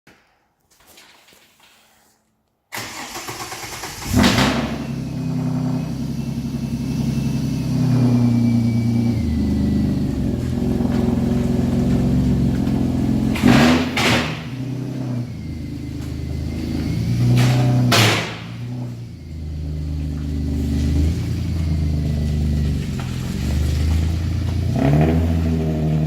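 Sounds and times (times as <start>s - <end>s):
car engine starting and idling: 2.7s - 26.0s.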